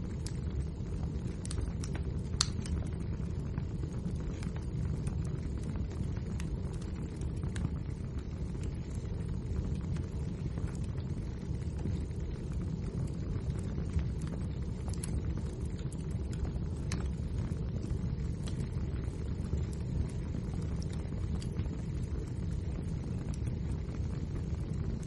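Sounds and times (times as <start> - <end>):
fire crackles and pops: 0.0 - 25.0
fire flames rumbling: 0.0 - 25.0.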